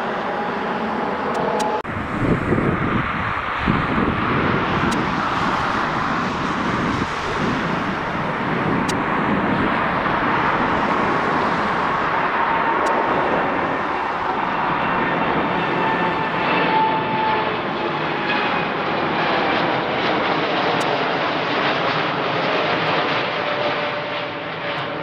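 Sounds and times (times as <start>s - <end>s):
faint jet engine whine: 0.0s - 25.0s
loud jet engine roar: 0.0s - 25.0s.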